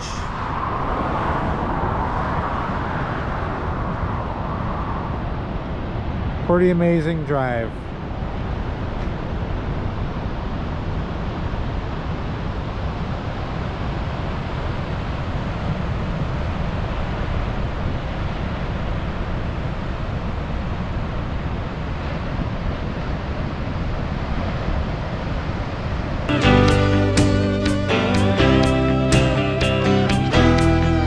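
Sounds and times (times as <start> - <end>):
wind on microphone: 0.0 - 26.3
ocean surf breaking: 0.0 - 31.0.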